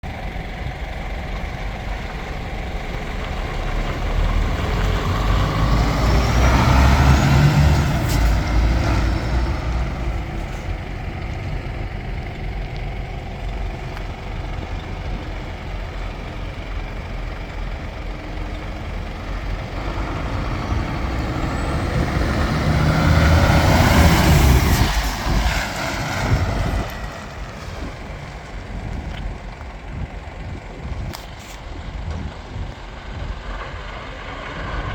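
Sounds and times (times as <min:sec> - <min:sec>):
truck diesel engine revving: 0:00.0 - 0:34.9.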